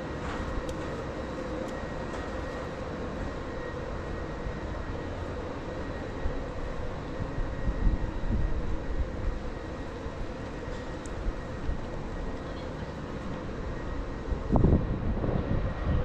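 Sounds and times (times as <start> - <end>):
faint high whine: 0.0 - 16.0
low urban rumble: 0.0 - 16.0.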